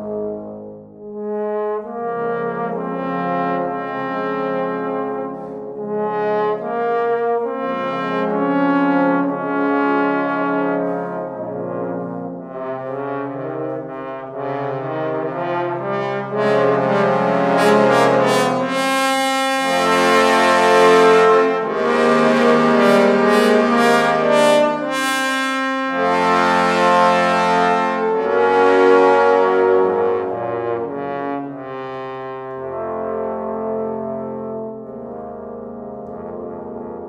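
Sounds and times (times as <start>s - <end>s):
trombone ensemble playing chords: 0.0s - 37.0s.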